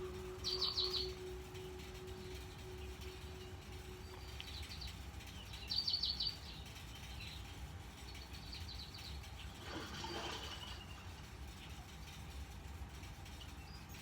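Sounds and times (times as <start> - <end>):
birds chirping: 0.0 - 12.0
low outdoor rumble: 0.0 - 14.0.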